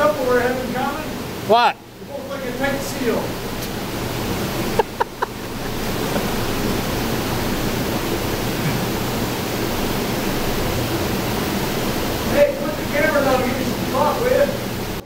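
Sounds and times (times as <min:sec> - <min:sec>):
turbine rushing with low hum: 0:00.0 - 0:15.0.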